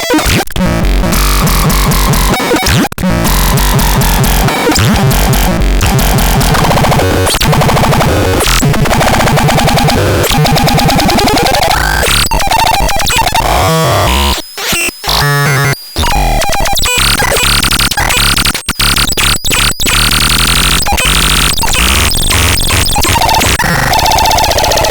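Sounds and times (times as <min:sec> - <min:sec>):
harsh pulsing synthesizer tones: 0:00.1 - 0:14.4, 0:15.1 - 0:24.9.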